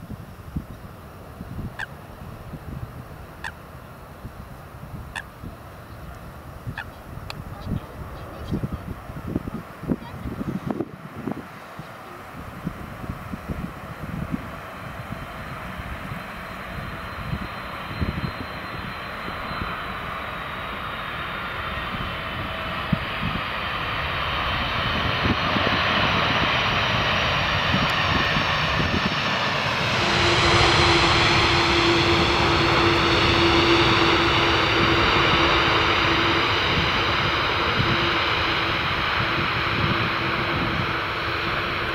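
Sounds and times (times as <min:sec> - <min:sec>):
steady engine drone: 0:00.0 - 0:41.9
jet engines roaring: 0:00.4 - 0:41.9.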